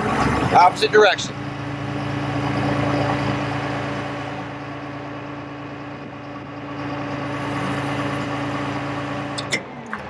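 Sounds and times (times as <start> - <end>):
diesel truck engine running: 0.0 - 10.0
hydraulic system hum: 1.2 - 10.0.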